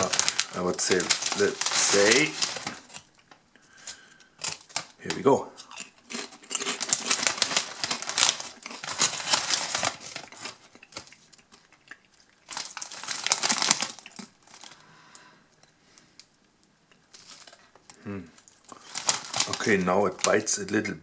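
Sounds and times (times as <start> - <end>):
foil crisp bag crinkling: 0.0 - 5.1, 5.7 - 14.9, 17.1 - 17.7, 18.4 - 20.9.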